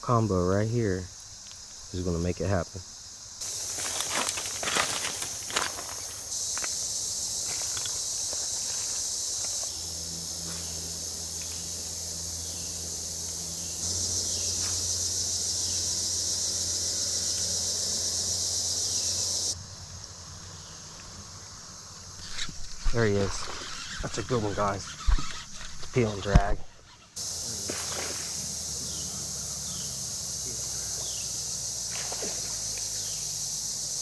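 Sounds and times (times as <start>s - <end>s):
insects chorus drone: 0.0s - 34.0s.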